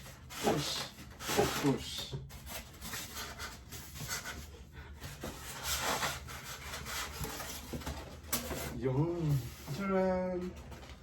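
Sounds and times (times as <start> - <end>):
cardboard rubbing and scraping: 0.0 - 10.1.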